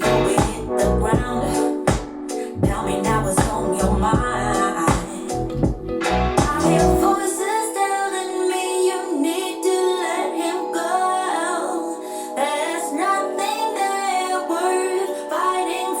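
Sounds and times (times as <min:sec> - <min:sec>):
woman singing pop song: 0:00.0 - 0:16.0.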